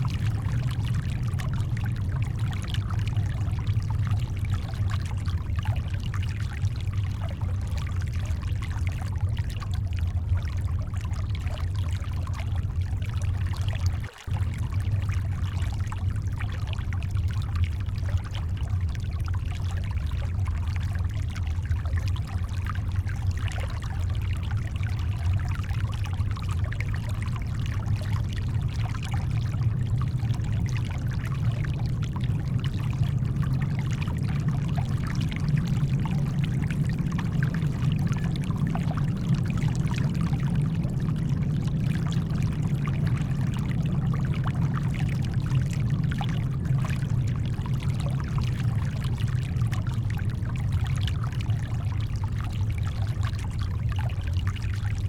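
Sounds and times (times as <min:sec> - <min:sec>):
deep steady rumble: 0:00.0 - 0:55.0.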